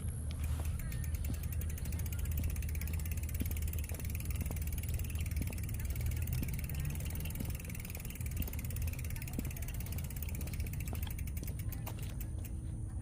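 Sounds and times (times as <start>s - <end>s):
bicycle freewheel ticking: 0.0s - 12.6s
scattered clicks: 0.1s - 12.6s.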